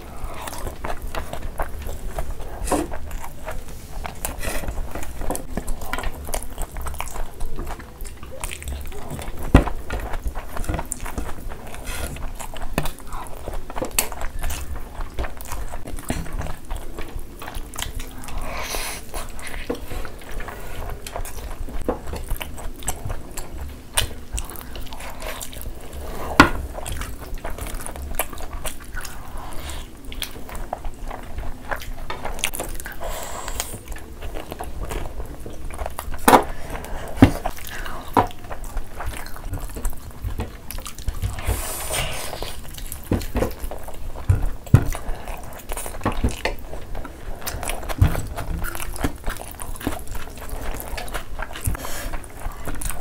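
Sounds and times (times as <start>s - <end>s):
chewing and mouth smacks: 0.0s - 53.0s.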